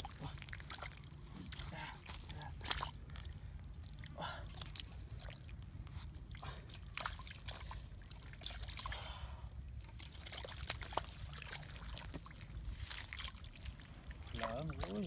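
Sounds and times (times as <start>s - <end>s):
hands squelching in wet mud: 0.0s - 15.0s.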